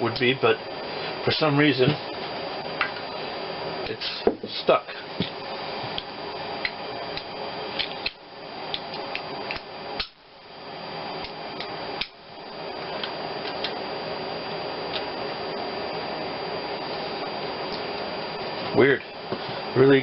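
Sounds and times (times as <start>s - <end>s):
steady fan-like hum: 0.0s - 20.0s.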